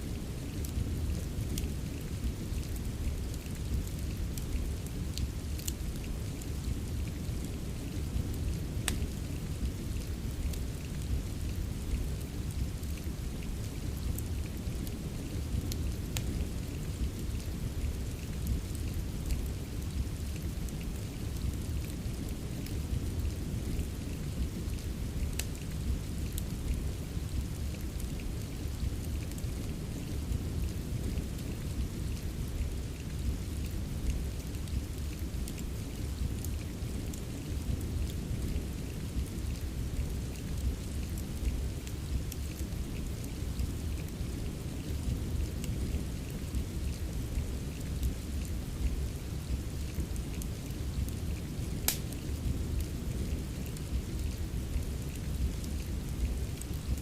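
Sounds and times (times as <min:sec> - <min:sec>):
steady rain hiss: 0:00.0 - 0:57.0
wood fire crackling: 0:00.0 - 0:57.0.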